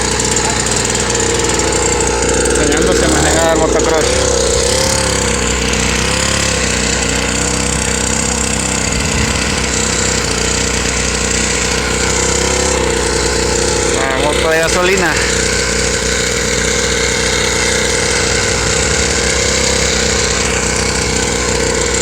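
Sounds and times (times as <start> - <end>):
small motorbike engine running: 0.0 - 22.0.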